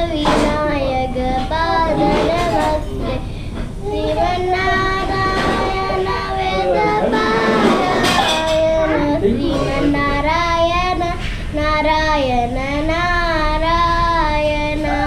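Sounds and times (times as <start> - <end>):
girl singing: 0.0 - 15.0.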